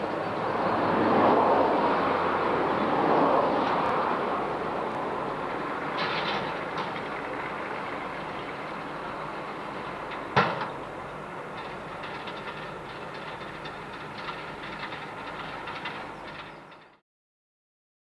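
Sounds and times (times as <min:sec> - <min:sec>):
tractor and baler clattering: 0:00.0 - 0:17.0.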